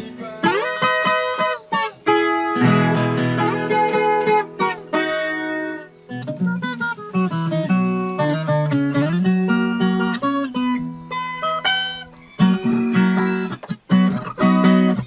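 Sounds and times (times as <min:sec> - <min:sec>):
folk guitar picked notes: 0:00.0 - 0:15.0.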